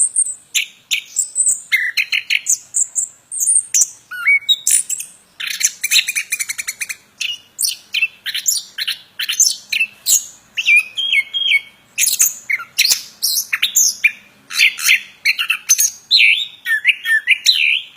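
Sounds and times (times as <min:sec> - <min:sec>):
songbird singing trills and whistles: 0:00.0 - 0:17.9.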